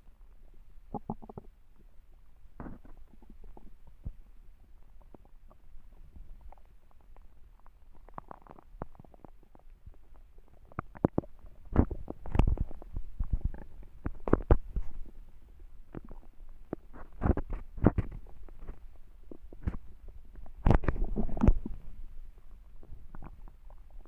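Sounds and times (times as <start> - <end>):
stomach growling: 0.0 - 24.0.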